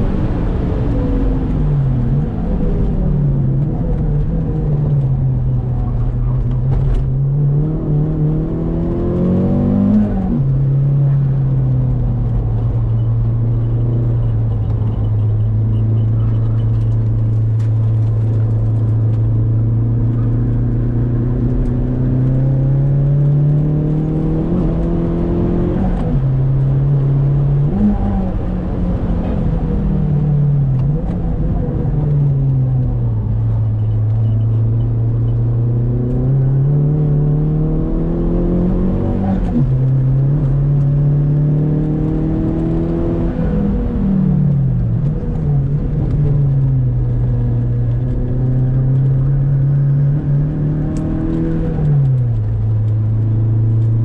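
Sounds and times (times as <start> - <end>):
car engine revving from inside: 0.0 - 54.0.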